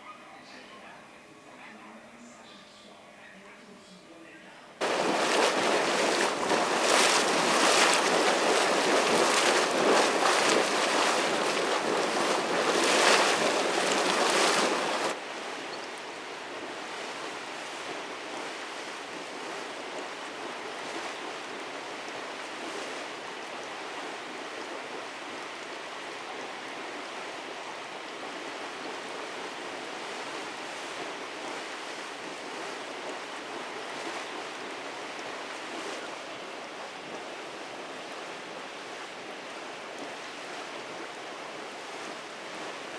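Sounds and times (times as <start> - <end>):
water rushing over rocks: 4.8 - 42.9.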